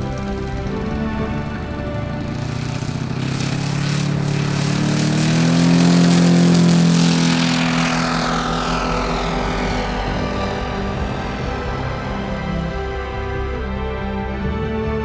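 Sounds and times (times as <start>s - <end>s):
model plane engine passing: 0.0s - 15.0s.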